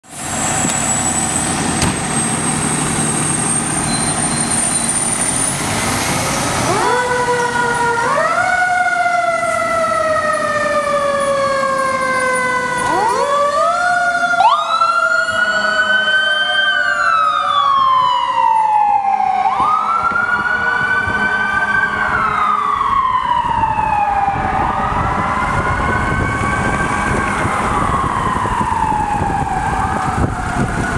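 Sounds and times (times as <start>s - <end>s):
diesel truck engines: 0.0s - 30.9s
emergency sirens wailing: 0.0s - 30.9s.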